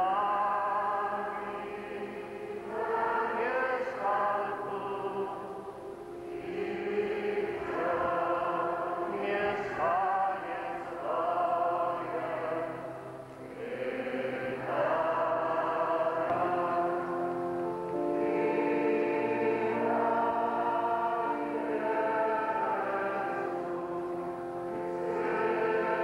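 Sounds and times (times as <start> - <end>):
voices singing a slow hymn: 0.0 - 26.0.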